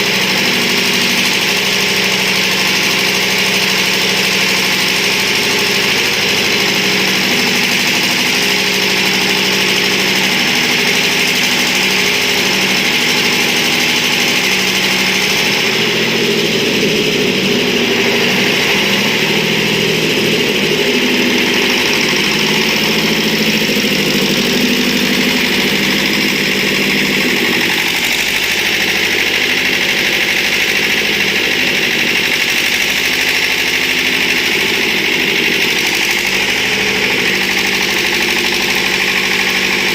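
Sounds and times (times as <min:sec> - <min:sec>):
diesel generator engine running: 0:00.0 - 0:39.9.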